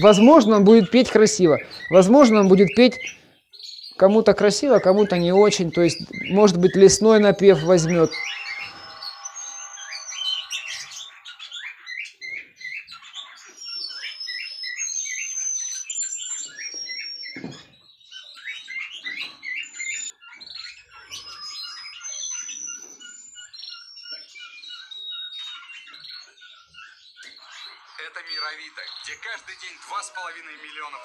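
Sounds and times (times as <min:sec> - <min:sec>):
canaries chirping and whistling: 0:00.0 - 0:31.0.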